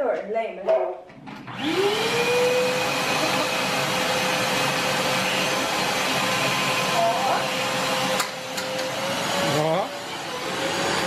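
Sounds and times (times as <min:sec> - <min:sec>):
vacuum cleaner motor whine: 0:01.2 - 0:11.0.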